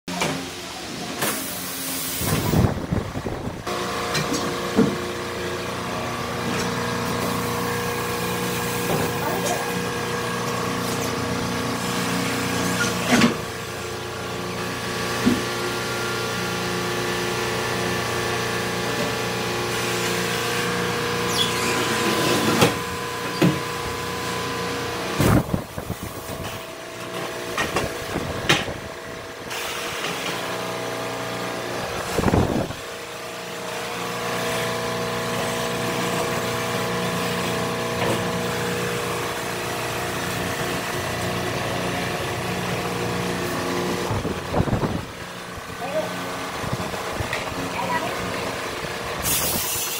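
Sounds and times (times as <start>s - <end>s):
tyre changer motor hum: 0.1s - 49.9s.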